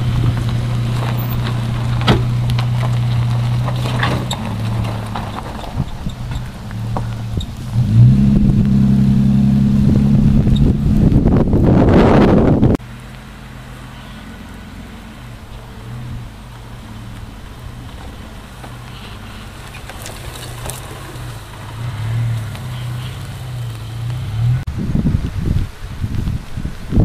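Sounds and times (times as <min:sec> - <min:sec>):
car engine humming at low revs: 0:00.0 - 0:27.0.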